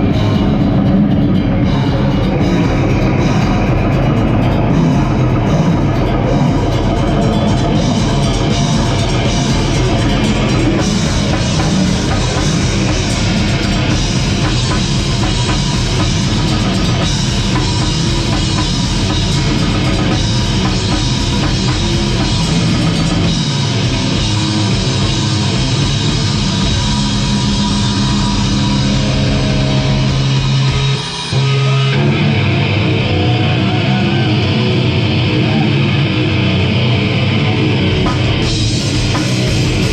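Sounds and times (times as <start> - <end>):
fast drumming: 0.0 - 32.2, 37.6 - 39.9
distorted electric guitar and bass: 0.0 - 39.9.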